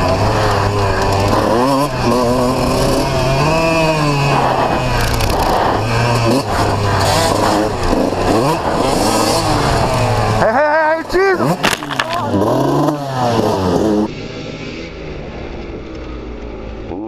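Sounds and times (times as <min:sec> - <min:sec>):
motocross bike engine revving: 0:00.0 - 0:15.6.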